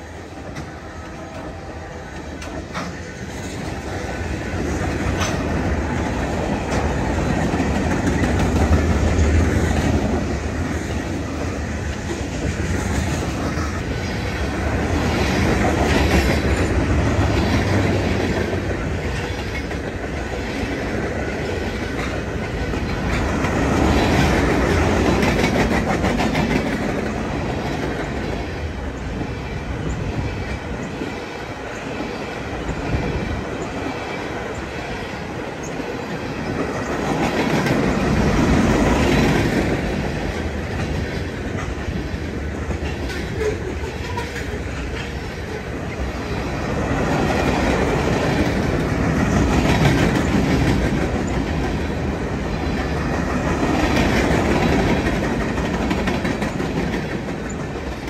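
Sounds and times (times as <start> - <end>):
freight train wheels clicking: 0.0 - 58.0.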